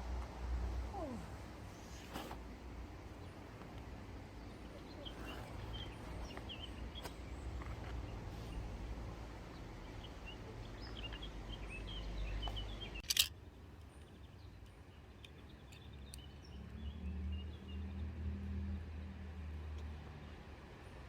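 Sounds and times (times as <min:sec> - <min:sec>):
small birds chirping: 0:00.7 - 0:18.0.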